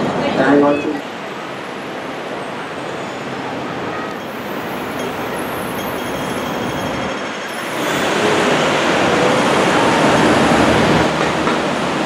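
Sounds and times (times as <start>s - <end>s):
buses and cars passing: 0.0s - 12.0s.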